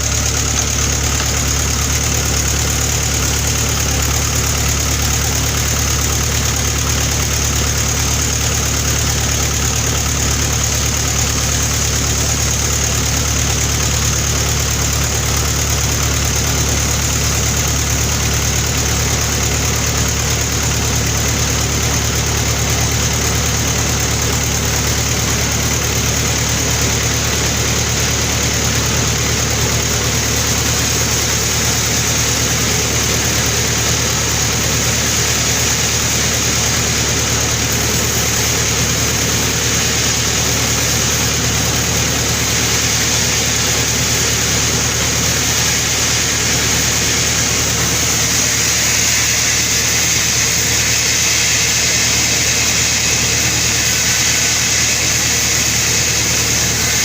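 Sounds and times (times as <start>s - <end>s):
saw whining: 0.0s - 57.0s
sawmill engine drone: 0.0s - 57.0s.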